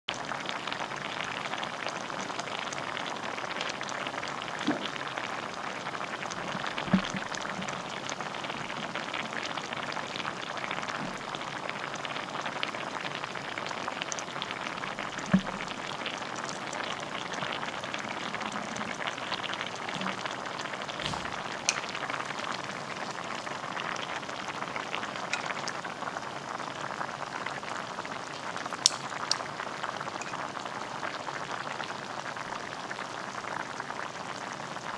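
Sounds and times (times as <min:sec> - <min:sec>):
sauce bubbling in a pot: 0:00.1 - 0:34.9.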